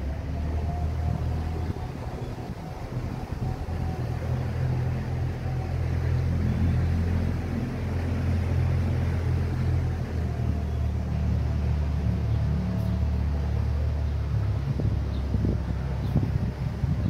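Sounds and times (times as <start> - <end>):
motorboat engine droning: 0.0 - 17.0.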